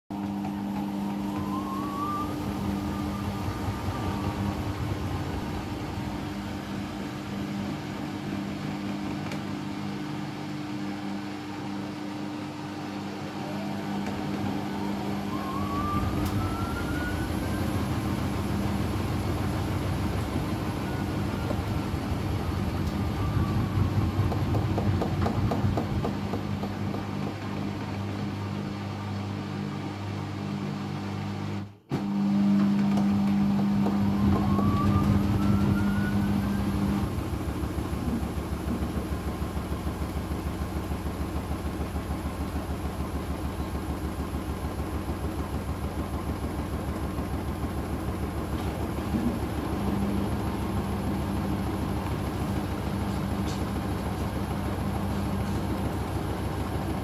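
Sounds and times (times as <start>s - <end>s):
washing machine motor whine: 0.0s - 57.0s.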